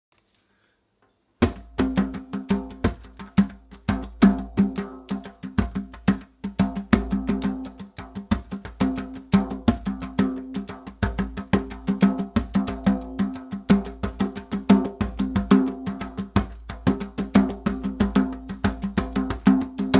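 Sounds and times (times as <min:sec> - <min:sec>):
hand drum played fast: 0:01.4 - 0:19.9.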